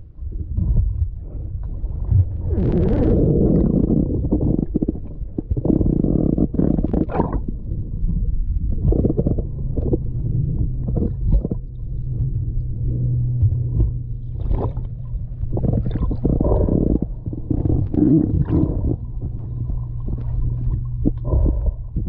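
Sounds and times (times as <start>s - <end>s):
low steady hum: 0.0s - 22.0s
muffled water sloshing and bubbling: 0.0s - 22.0s.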